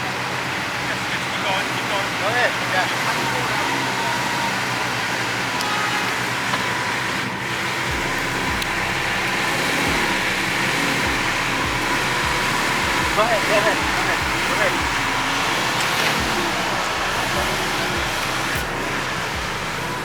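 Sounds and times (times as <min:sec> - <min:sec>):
motor vehicles: 0:00.0 - 0:20.0.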